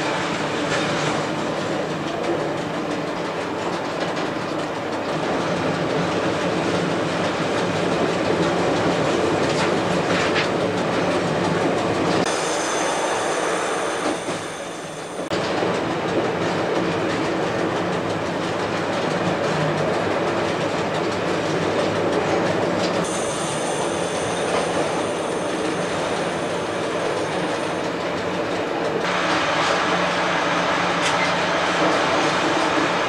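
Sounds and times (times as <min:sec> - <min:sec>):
diesel railcar running: 0:00.0 - 0:33.0.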